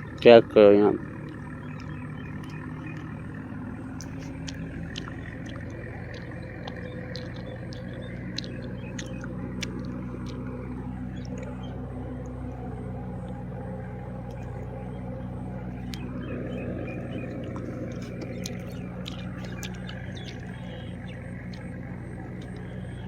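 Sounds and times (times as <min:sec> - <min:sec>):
tractor engine droning: 0:00.0 - 0:23.0
faint ticks: 0:01.2 - 0:03.3, 0:03.9 - 0:12.4, 0:13.1 - 0:23.0.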